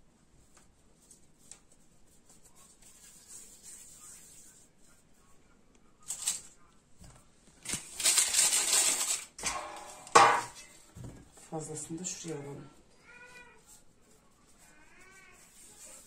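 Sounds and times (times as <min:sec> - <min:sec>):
soft handling of dough: 0:00.0 - 0:08.6, 0:10.6 - 0:16.0
baking paper rustling: 0:00.5 - 0:05.2, 0:06.0 - 0:16.0.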